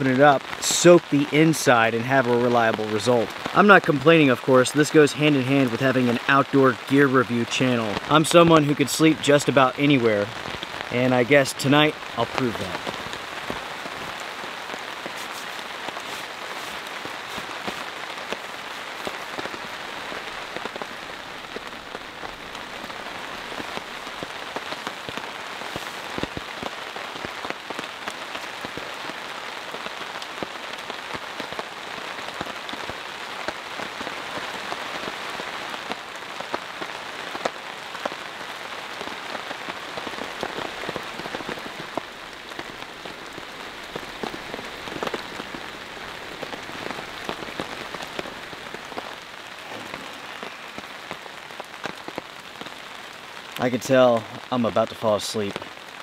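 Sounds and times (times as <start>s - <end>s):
heavy rain on a tarp: 0.0s - 56.0s.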